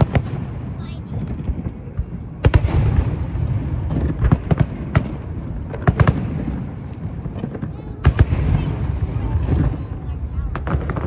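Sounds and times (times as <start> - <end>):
continuous low rumble: 0.0 - 11.0
fireworks bangs: 0.0 - 11.0.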